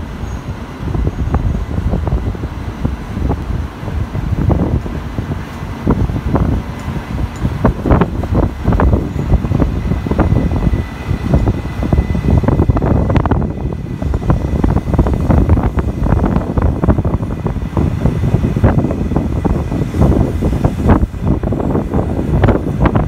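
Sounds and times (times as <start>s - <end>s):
train rolling past: 0.0s - 23.0s
wind buffeting microphone: 0.0s - 23.0s.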